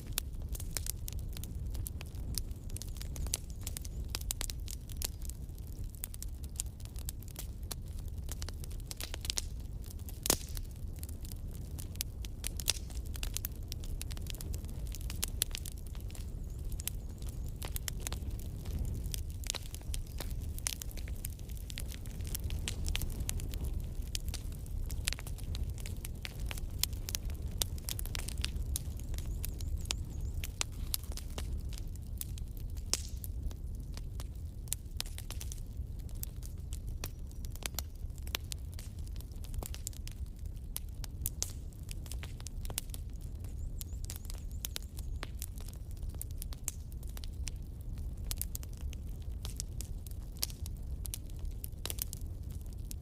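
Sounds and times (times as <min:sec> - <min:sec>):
fire popping: 0:00.0 - 0:53.0
low rumble of flames: 0:00.0 - 0:53.0
wood fire crackling: 0:00.0 - 0:53.0.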